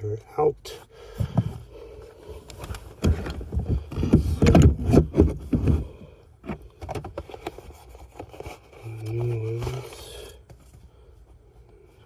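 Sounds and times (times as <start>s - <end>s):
air filters rustling and clicking: 1.1s - 12.0s.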